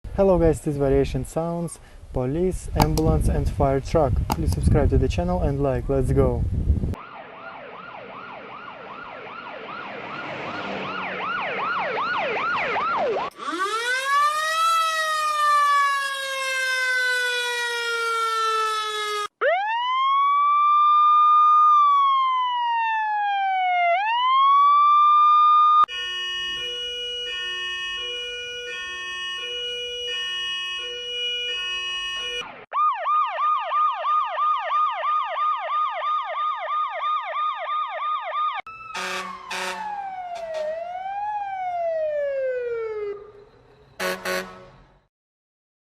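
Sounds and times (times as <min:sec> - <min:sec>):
siren yelp: 0:06.9 - 0:44.9
siren wail: 0:07.0 - 0:45.0
two-tone hi-lo siren: 0:07.0 - 0:45.1.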